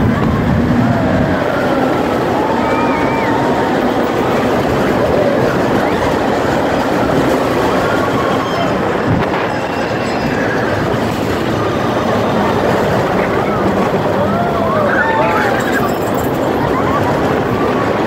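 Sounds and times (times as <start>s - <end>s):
roller coaster wheels rumbling on rail: 0.0s - 18.0s.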